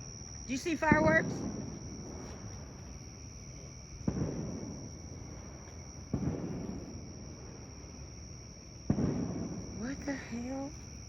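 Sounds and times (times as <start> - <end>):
distant booms with echo: 0.8 - 2.8, 3.9 - 10.8.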